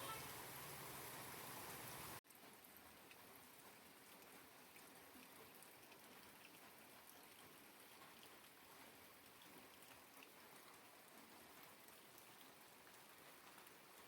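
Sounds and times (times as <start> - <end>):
faint steady rain: 0.0 - 14.0
scattered drips: 0.0 - 14.0.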